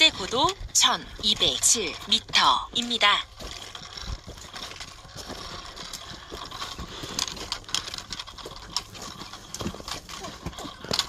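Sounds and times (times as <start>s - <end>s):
trekking poles clicking on rock: 0.0s - 11.0s.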